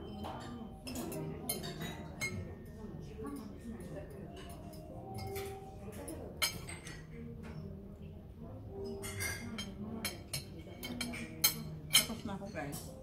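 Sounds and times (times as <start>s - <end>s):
cutlery clinking against plate: 0.0s - 7.8s, 8.7s - 13.0s.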